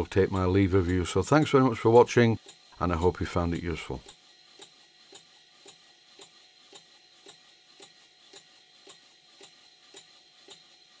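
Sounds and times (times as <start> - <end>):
model steam engine exhaust beat: 0.0 - 11.0.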